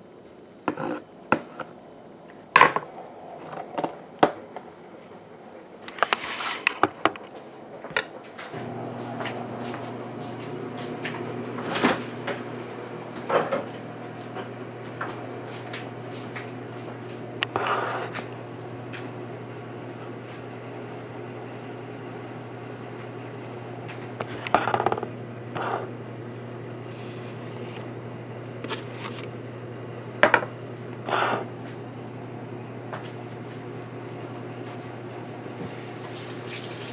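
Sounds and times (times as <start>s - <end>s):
low appliance hum: 0.0s - 36.9s.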